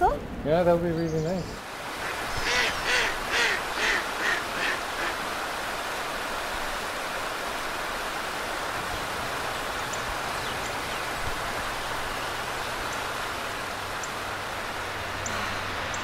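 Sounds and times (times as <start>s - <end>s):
water rushing over weir: 1.6s - 16.0s.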